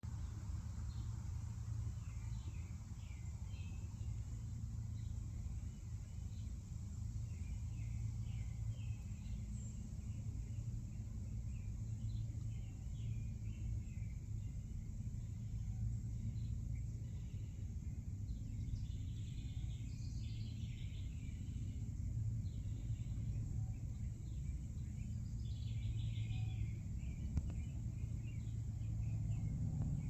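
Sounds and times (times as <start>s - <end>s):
small birds chirping: 0.0s - 30.0s
low rumble: 3.9s - 30.0s.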